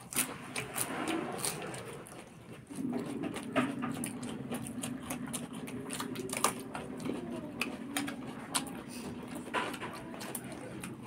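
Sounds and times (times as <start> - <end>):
lip-smacking and chewing: 0.0 - 11.0
low steady hum: 0.0 - 11.0.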